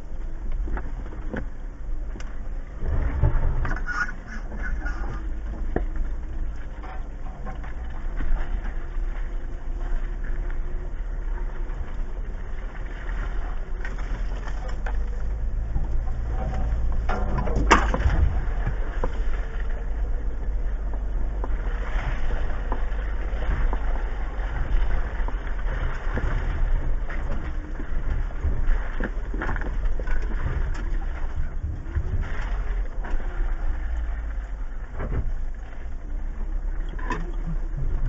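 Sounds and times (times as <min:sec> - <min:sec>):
engine and tyres rumbling: 0:00.0 - 0:38.0.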